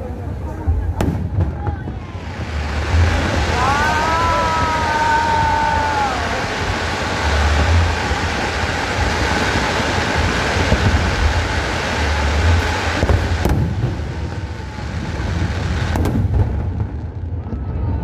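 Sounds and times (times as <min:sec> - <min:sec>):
fireworks rumble and crackle: 0:00.0 - 0:18.0
fireworks bangs: 0:00.2 - 0:18.0.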